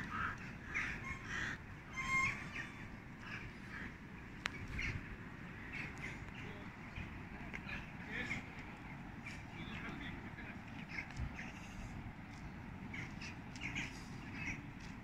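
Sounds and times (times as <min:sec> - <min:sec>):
birds harsh calls: 0:00.0 - 0:15.0
low background rumble: 0:00.0 - 0:15.0.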